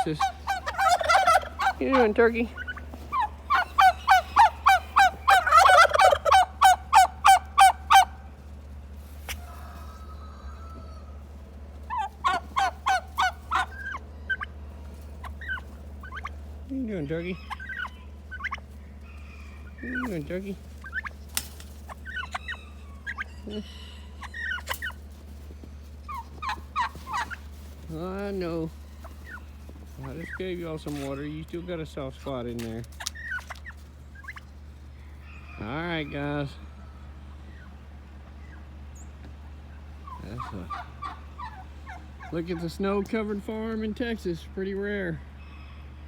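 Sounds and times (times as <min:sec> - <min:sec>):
steady low hum: 0:00.0 - 0:46.0
turkey gobbling: 0:00.0 - 0:46.0.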